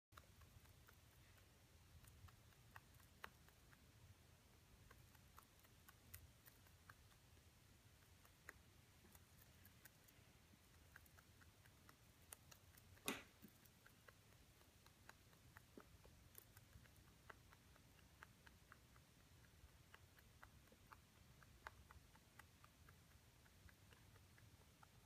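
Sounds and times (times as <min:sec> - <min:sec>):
rabbit chewing hay: 0:00.1 - 0:25.0.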